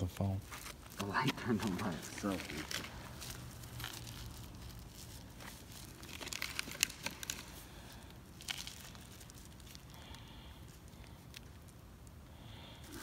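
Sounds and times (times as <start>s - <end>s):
gloved hands rustling: 0.0s - 13.0s.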